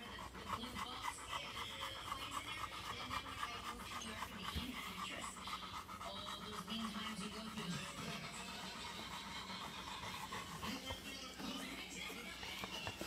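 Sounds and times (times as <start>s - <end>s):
dog panting rapidly: 0.0s - 13.0s.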